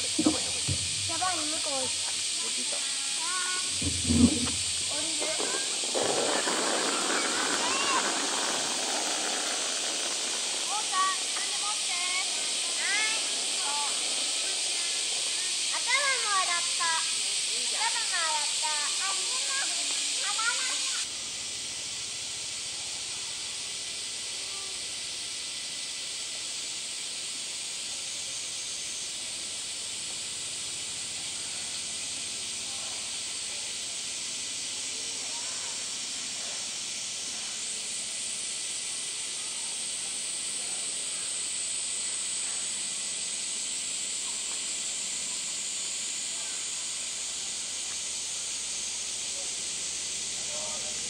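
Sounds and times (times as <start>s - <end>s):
cicada chorus hissing: 0.0s - 51.0s.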